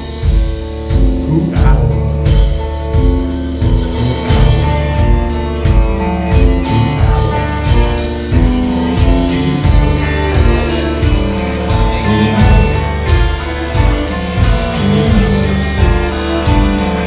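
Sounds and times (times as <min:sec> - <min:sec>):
drums hitting: 0:00.0 - 0:17.0
live band playing: 0:00.0 - 0:17.0.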